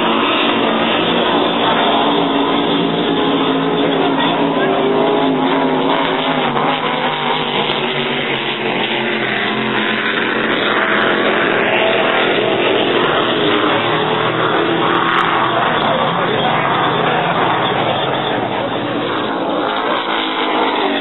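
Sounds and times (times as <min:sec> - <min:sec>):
powerboat engines droning: 0:00.0 - 0:21.0.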